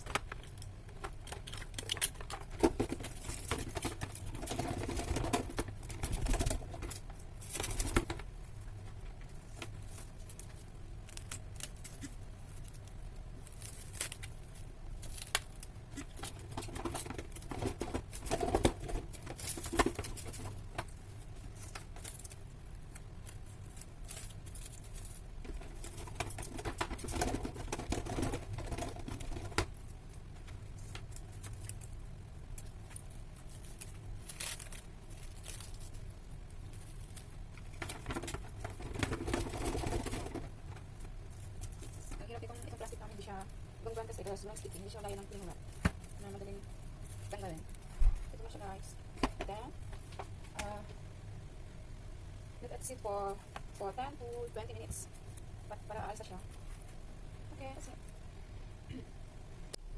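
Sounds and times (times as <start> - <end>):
cling film crinkling: 0.0 - 50.8.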